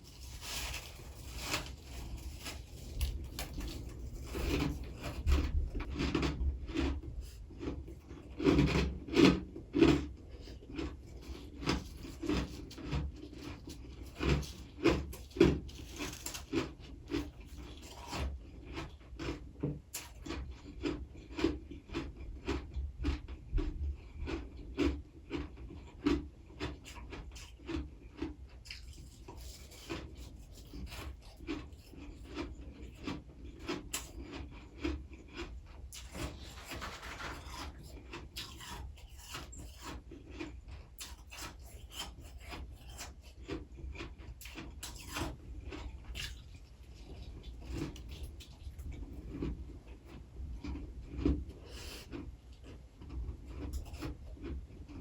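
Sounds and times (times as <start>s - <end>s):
crunchy chewing of frost: 0.0s - 55.0s.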